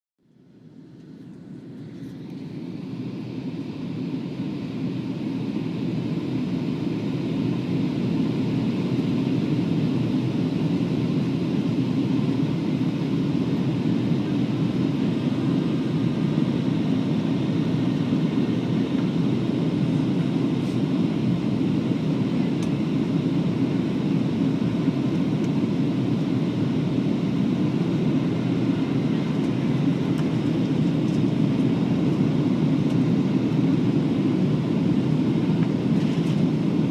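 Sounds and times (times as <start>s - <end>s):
airplane cabin noise in flight: 0.2s - 36.9s.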